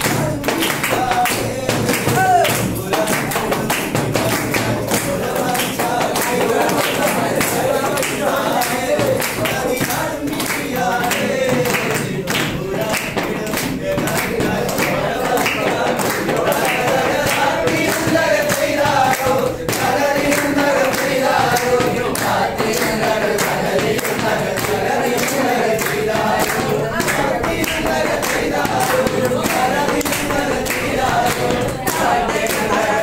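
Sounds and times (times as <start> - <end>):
group singing in unison: 0.0 - 33.0
hand claps: 0.0 - 33.0.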